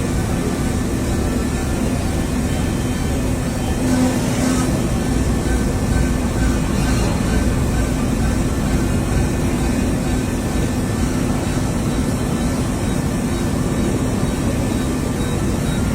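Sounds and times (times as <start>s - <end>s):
machine droning: 0.0s - 15.9s.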